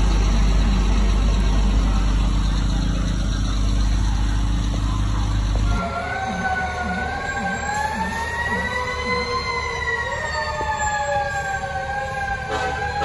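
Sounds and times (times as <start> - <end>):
fire truck siren wailing: 0.0 - 13.0
low warbling siren tone: 0.0 - 13.0.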